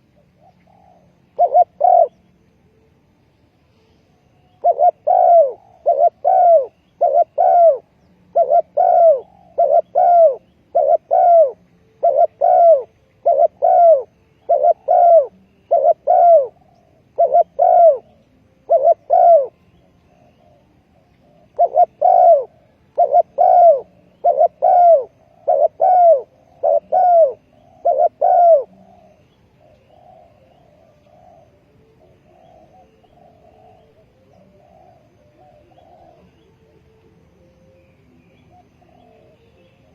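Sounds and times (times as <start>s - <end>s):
dove cooing: 0.0s - 2.4s, 4.4s - 39.9s.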